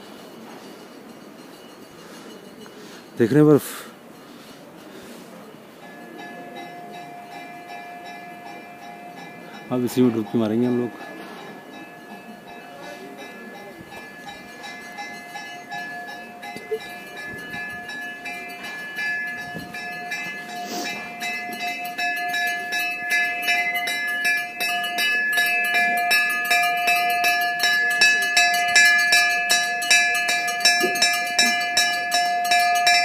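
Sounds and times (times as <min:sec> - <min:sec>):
temple bell ringing: 0:00.0 - 0:04.9, 0:05.7 - 0:33.0.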